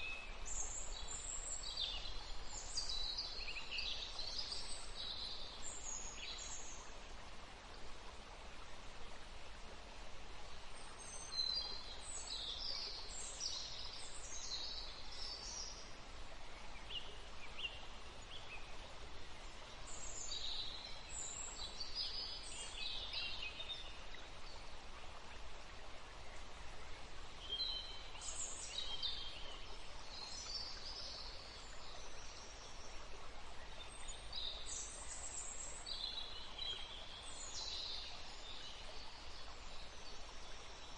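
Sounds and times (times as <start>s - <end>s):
songbirds chirping and warbling: 0.0s - 7.4s, 10.5s - 40.9s
soft outdoor hiss: 0.0s - 40.9s.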